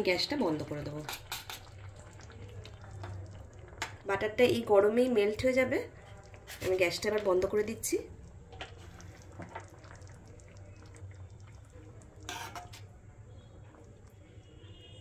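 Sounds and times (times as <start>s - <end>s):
soup liquid sounds: 0.0s - 15.0s.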